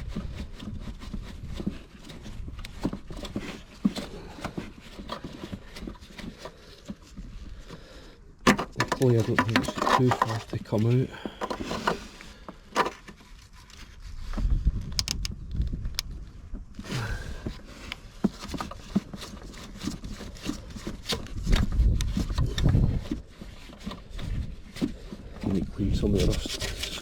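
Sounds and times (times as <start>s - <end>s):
mole grips clicking and scraping: 0.0s - 16.1s, 16.8s - 27.0s.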